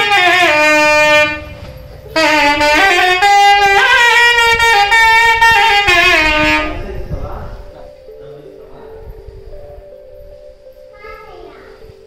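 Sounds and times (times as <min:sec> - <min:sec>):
double-reed pipe melody: 0:00.0 - 0:11.0.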